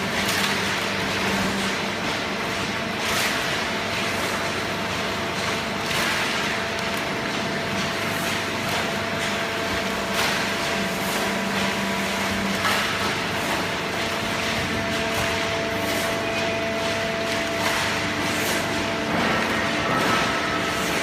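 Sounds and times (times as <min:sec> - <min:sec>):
hydraulic press running: 0:00.0 - 0:21.0.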